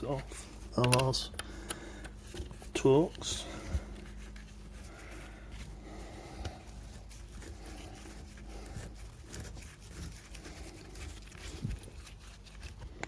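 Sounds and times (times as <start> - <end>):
rustling handling noise: 0.0 - 13.0.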